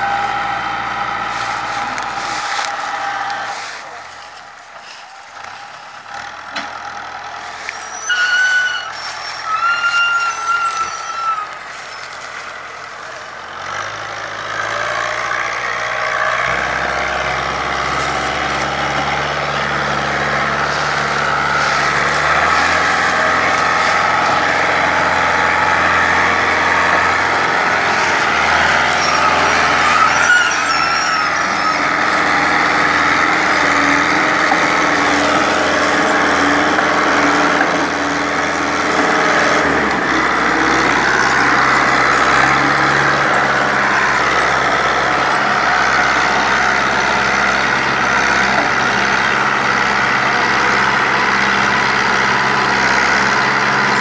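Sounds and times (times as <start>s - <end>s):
tractor diesel engine labouring: 0.0s - 54.0s.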